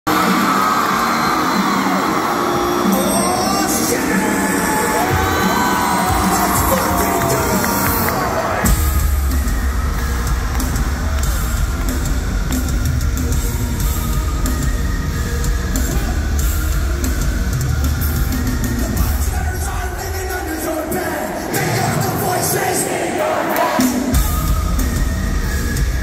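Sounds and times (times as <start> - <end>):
live heavy rock band: 0.1 - 26.0.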